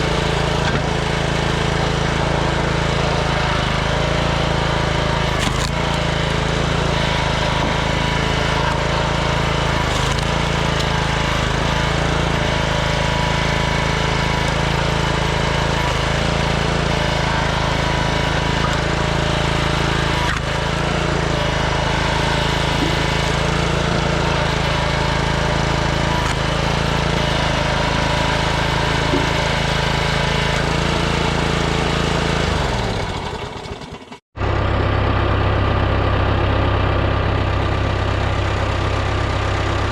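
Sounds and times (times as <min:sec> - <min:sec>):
engine running: 0:00.0 - 0:39.9
engine winding down: 0:00.0 - 0:39.9.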